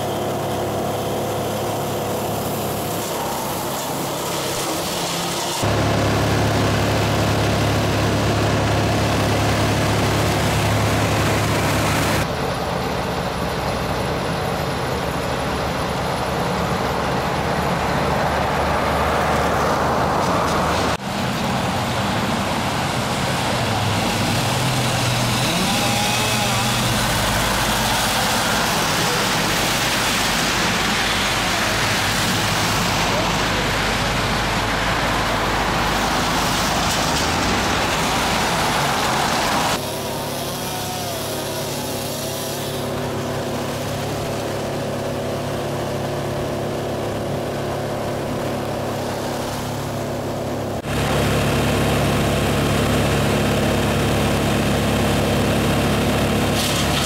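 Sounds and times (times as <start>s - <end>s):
car engines running: 0.0s - 57.0s
tyres on wet pavement: 0.0s - 57.0s.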